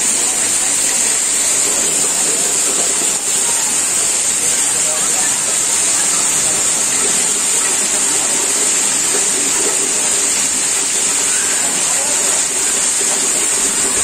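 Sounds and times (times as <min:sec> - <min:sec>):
torrential rain pouring: 0:00.0 - 0:14.0.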